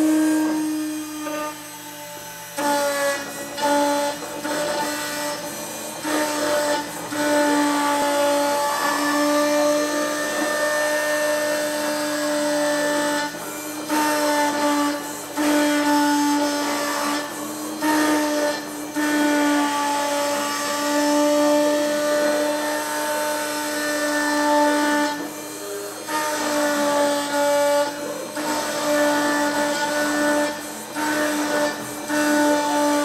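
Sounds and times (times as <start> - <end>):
engraving machine spindle whine: 0.0 - 33.0.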